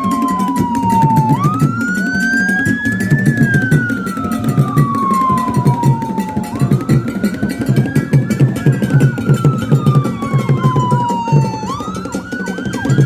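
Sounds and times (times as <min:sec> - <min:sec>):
siren wailing: 0:00.0 - 0:13.0
steady drumbeat: 0:00.0 - 0:13.0.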